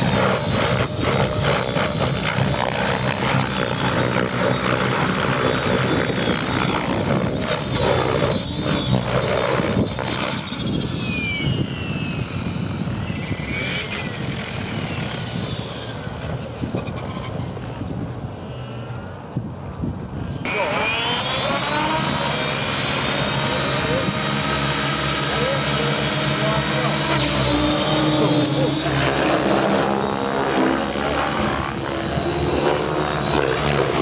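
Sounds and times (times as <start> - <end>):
high whine sweeping in pitch: 0.0 - 19.4, 20.2 - 34.0
model helicopter rotor and motor: 0.0 - 34.0.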